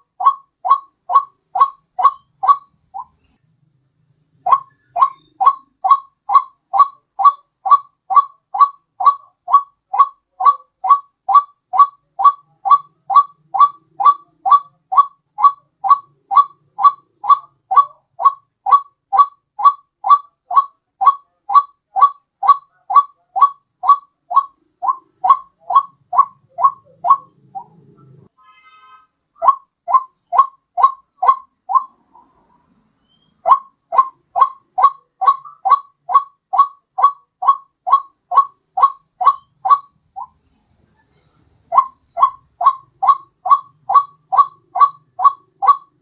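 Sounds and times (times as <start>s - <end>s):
waterhen call: 0.0s - 3.4s, 4.4s - 28.2s, 29.4s - 40.4s, 41.7s - 46.0s.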